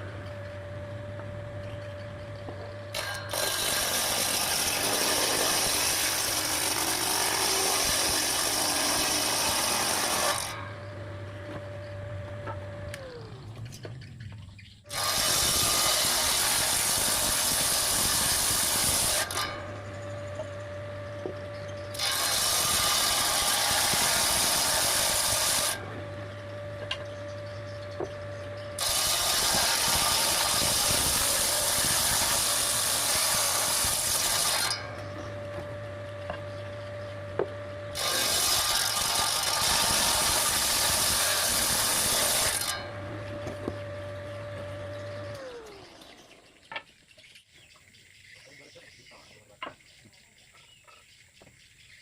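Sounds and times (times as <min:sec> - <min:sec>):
saw cutting wood: 0:00.0 - 0:13.7, 0:14.9 - 0:46.5
table saw whine and hum: 0:00.0 - 0:14.3, 0:14.9 - 0:46.6.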